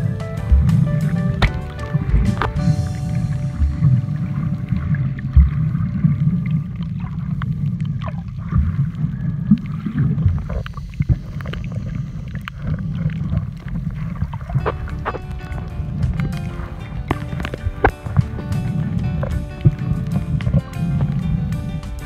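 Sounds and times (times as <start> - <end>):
underwater rumble of moving water: 0.0 - 22.0.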